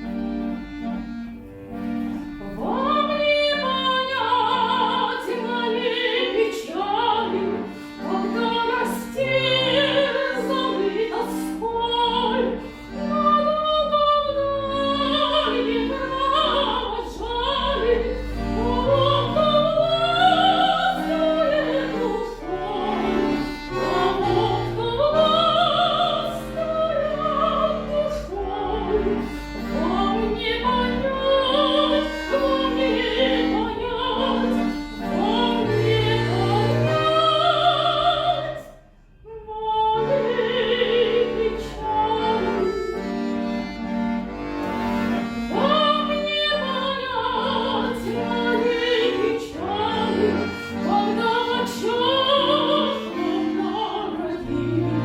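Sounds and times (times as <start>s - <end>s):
sustained instrumental chords: 0.0s - 55.0s.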